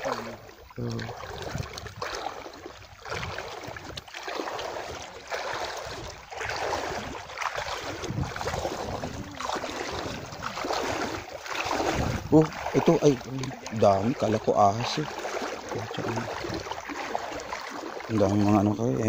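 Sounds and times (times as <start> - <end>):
wading through shallow water: 0.0 - 19.0.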